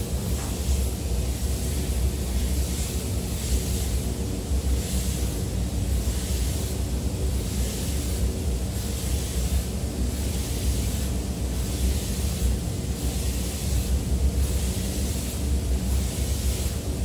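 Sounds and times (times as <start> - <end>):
spray gun hissing: 0.0 - 17.0
ventilation rumble and hum: 0.0 - 17.0.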